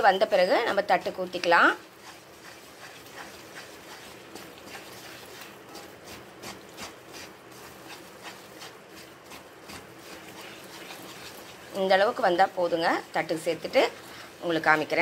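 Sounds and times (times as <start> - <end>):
wooden spatula scraping a pan: 0.0 - 15.0.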